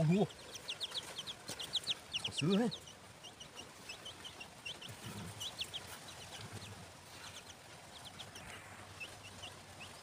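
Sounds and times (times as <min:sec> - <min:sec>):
chicks cheeping: 0:00.0 - 0:10.0.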